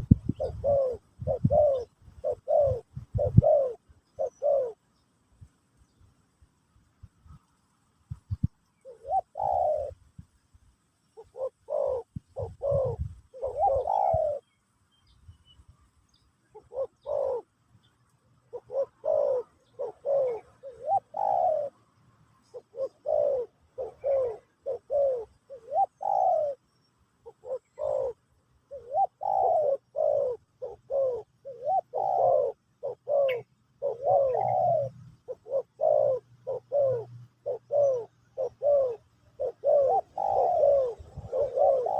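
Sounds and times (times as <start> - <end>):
dove cooing: 0.0 - 5.0, 8.1 - 10.3, 11.1 - 14.6, 16.4 - 41.9.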